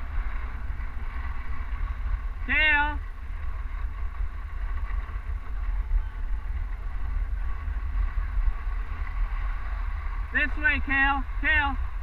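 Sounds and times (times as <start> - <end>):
skis sliding on snow: 0.0 - 12.0
wind rumbling on microphone: 0.0 - 12.0.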